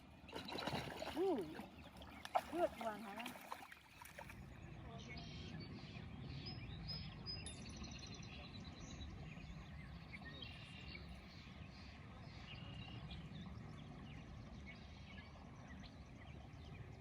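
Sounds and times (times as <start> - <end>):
small birds chirping and trilling: 0.2 - 17.0.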